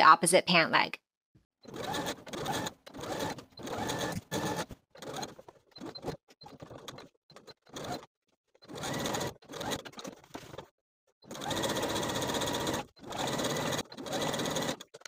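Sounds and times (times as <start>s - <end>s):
sewing machine stitching: 1.6s - 15.0s.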